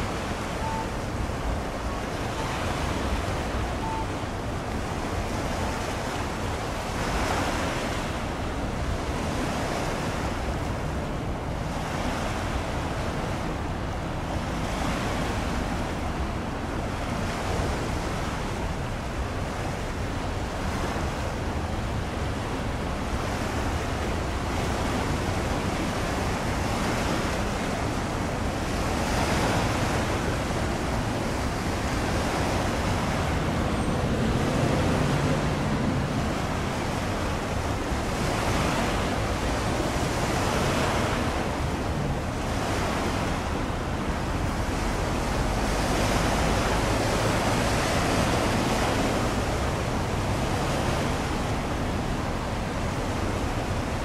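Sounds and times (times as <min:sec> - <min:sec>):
sea waves washing in: 0:00.0 - 0:54.0
wind rumbling on microphone: 0:00.0 - 0:54.0.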